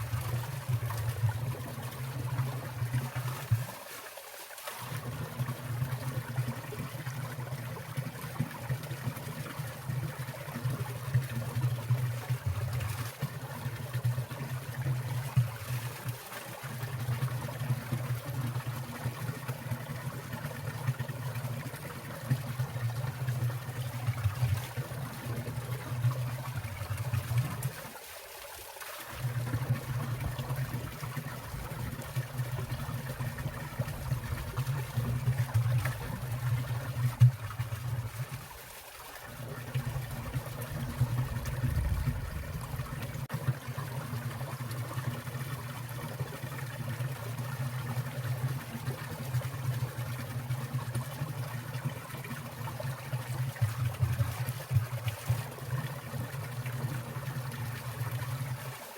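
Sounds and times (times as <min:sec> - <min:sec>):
stream trickling and splashing: 0:00.0 - 0:58.9.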